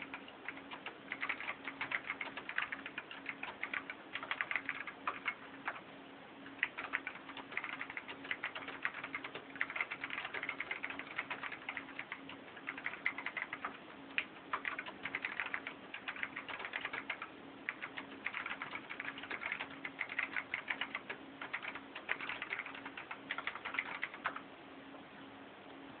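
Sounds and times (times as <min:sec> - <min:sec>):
mechanical keyboard typing: 0:00.0 - 0:05.8, 0:06.5 - 0:24.4.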